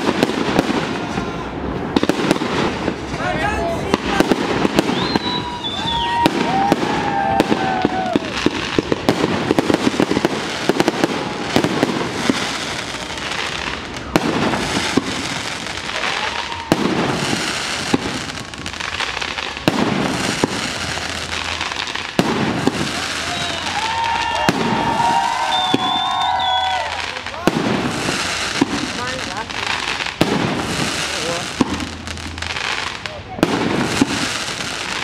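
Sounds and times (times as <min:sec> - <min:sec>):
fireworks crackling: 0:00.0 - 0:35.0
fireworks shells bursting: 0:04.0 - 0:35.0.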